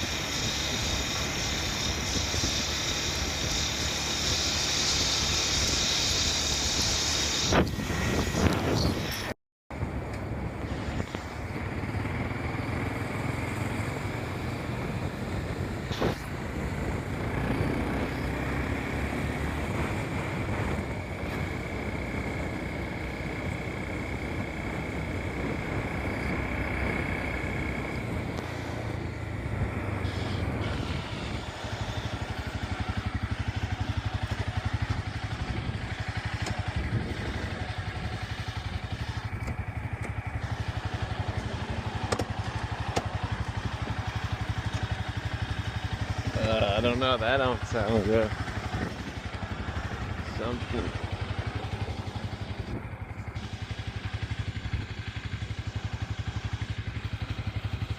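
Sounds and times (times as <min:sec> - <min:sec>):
motorcycle engine running: 0:00.0 - 0:57.9
road noise: 0:00.0 - 0:57.9.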